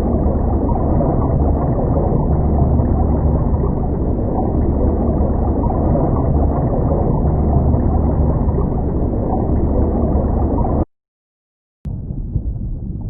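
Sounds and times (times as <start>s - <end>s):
underwater rumble of moving water: 0.0s - 10.9s, 11.9s - 13.0s.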